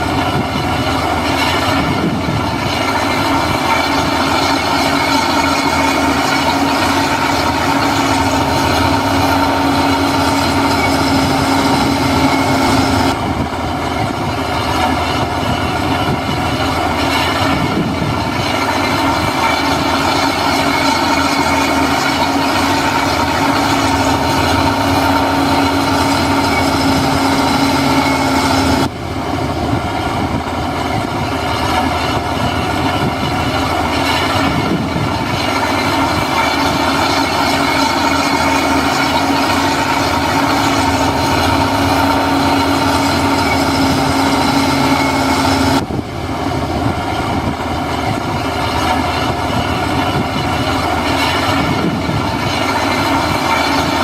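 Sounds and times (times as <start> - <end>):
diesel construction machinery running: 0.0 - 54.0.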